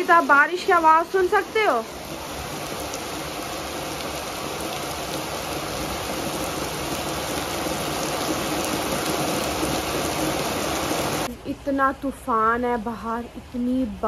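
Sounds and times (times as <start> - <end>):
heavy rain pouring: 0.0 - 11.3.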